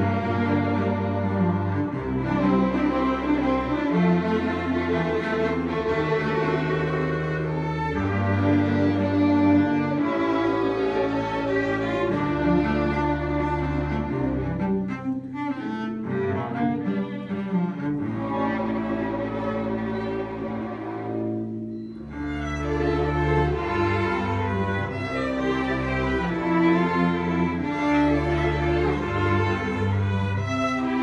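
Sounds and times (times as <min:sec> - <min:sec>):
string ensemble playing: 0:00.0 - 0:31.0.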